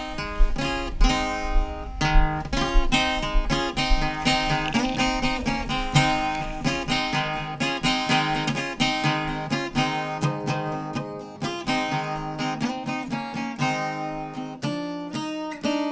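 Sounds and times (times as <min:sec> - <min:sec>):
plucked and strummed music: 0:00.0 - 0:15.9.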